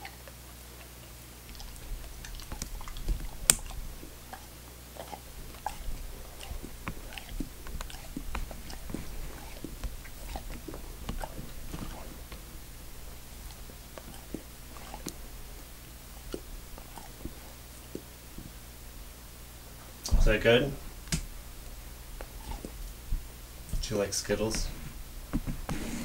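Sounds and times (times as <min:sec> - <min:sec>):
dog licking lips: 0:00.0 - 0:24.0
dog chewing crunchy candy: 0:00.0 - 0:25.7.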